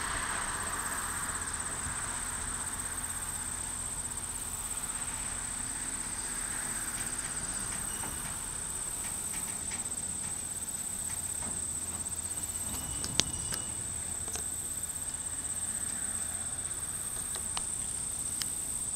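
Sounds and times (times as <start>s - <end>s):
crickets trilling: 0.0s - 18.9s
faint low rumble: 0.0s - 18.9s.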